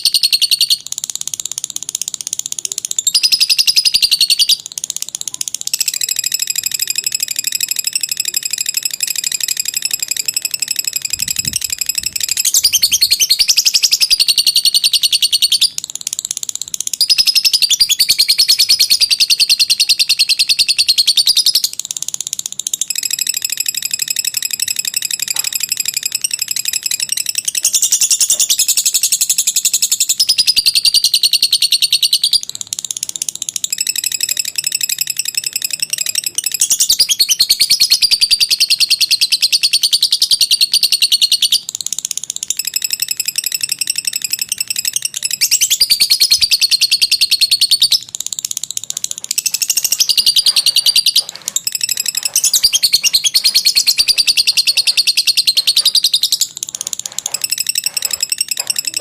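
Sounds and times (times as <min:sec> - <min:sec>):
lovebird chattering trill: 0:00.0 - 0:59.0.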